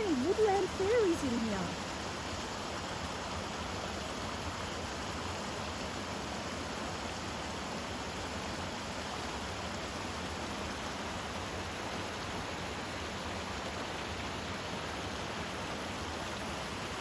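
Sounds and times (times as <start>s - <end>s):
creek and waterfall rushing: 0.0s - 17.0s.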